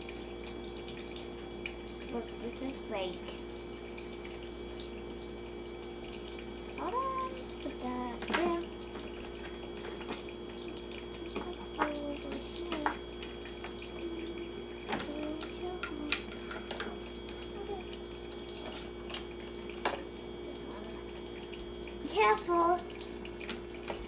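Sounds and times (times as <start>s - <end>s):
steady hum: 0.0s - 24.0s
water trickling into plastic basin: 0.0s - 24.0s.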